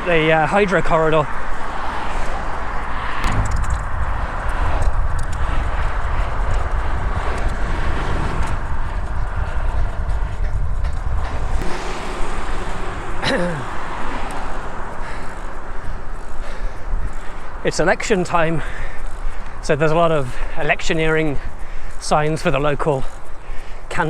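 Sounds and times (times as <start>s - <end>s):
road traffic: 0.0s - 24.0s
wind buffeting microphone: 0.0s - 24.0s.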